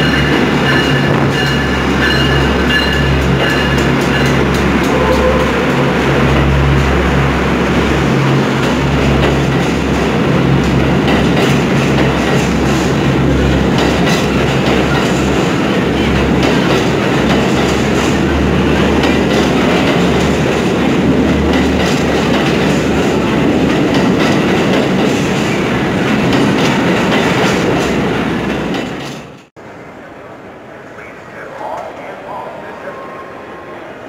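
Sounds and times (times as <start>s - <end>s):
wheels clattering over rails: 0.0s - 29.5s
subway train rumbling: 0.0s - 34.0s.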